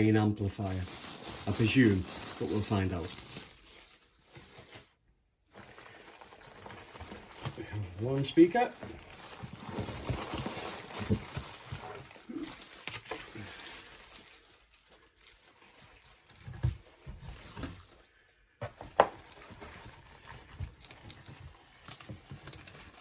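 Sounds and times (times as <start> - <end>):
packaging rustling and scraping: 0.5 - 23.0.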